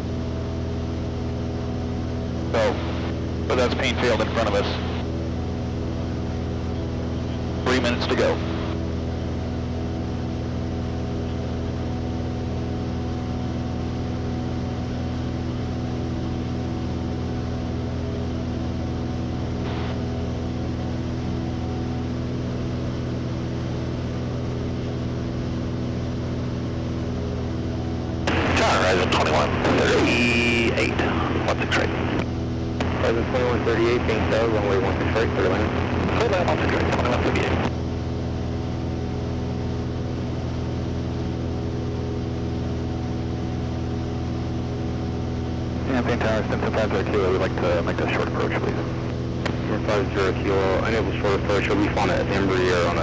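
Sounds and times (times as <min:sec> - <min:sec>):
light aircraft engine drone: 0:00.0 - 0:53.0.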